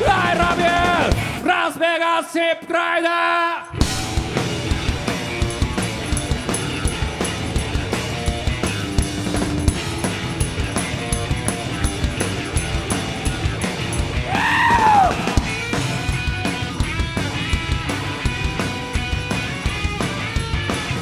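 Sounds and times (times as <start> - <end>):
live rock band playing: 0.0 - 1.4, 3.8 - 21.0.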